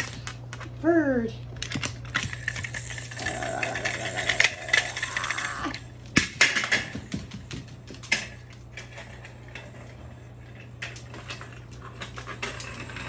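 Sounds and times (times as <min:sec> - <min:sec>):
toy car clattering on hard floor: 0:01.6 - 0:13.0.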